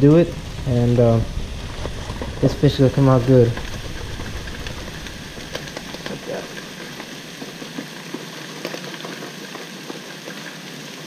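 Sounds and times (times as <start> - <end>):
fish sizzling in a pan: 0.0 - 11.0
small crackles: 0.0 - 11.0.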